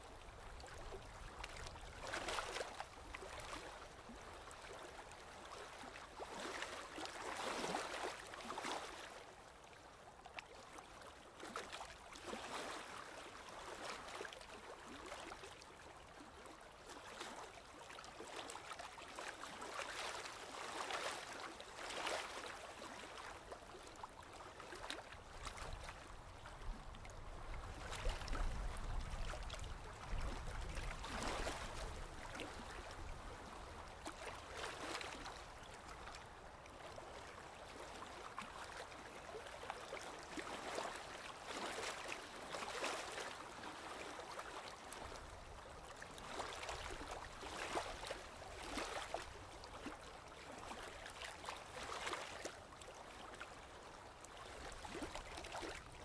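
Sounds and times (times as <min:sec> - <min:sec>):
low rumble of heavy water: 0:00.0 - 0:56.0
small waves lapping and splashing: 0:00.0 - 0:56.0.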